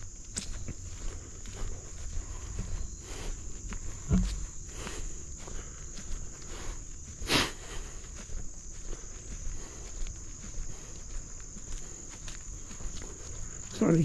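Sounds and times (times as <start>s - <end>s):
crickets and insects chirping: 0.0s - 14.0s
footsteps on a trail: 0.0s - 14.0s.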